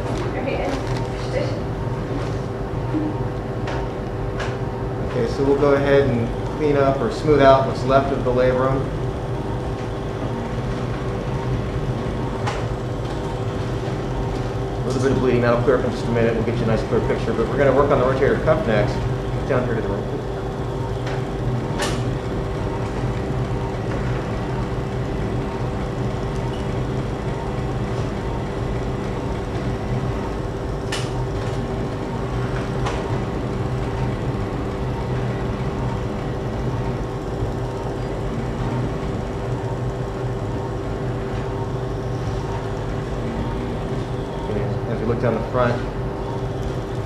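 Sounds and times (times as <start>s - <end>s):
medical equipment hum and hiss: 0.0s - 47.0s.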